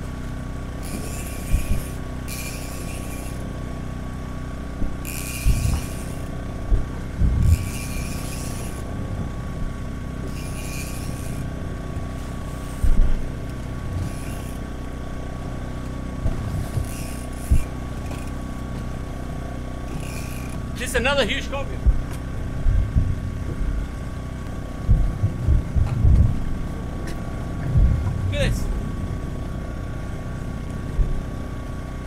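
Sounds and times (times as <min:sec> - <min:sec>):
boat motor droning: 0:00.0 - 0:32.0.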